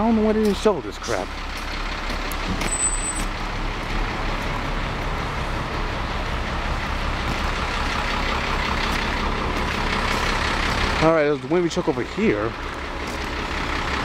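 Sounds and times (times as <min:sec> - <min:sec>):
truck engines idling: 0:00.0 - 0:14.0.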